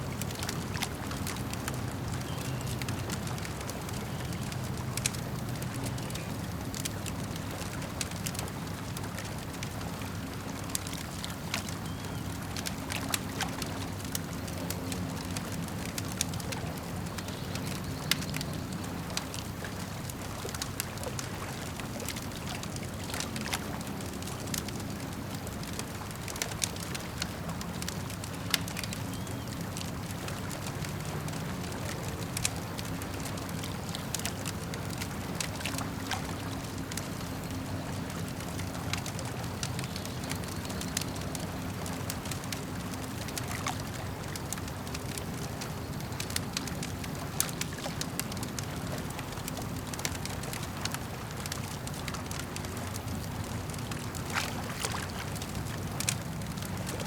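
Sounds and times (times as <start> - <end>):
lake water lapping: 0.0 - 57.0
campfire crackling and popping: 0.1 - 57.0.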